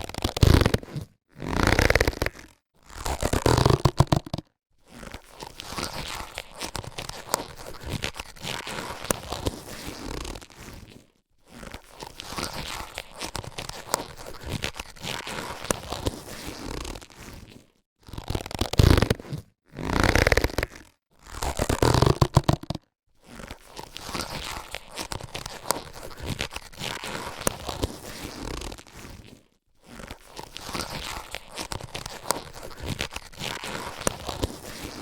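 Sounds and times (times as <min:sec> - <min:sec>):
latex gloves crinkling: 0:00.0 - 0:35.0.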